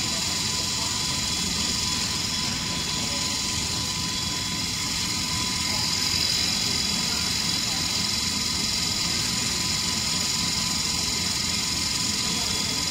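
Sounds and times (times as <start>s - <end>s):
machinery hum and hiss: 0.0s - 12.9s
thin steady whine: 0.0s - 12.9s.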